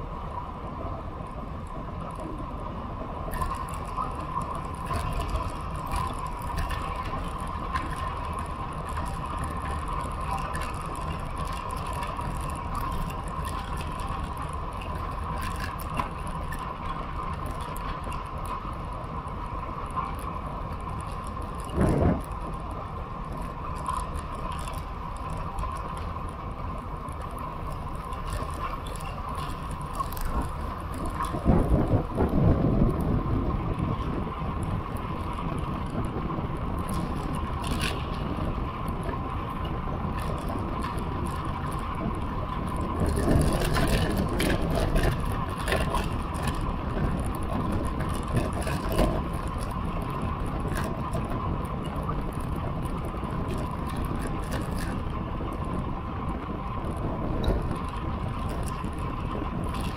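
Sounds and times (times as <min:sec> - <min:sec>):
bicycle tyres rolling on asphalt: 0:00.0 - 0:59.9
wind on microphone: 0:00.0 - 0:59.9.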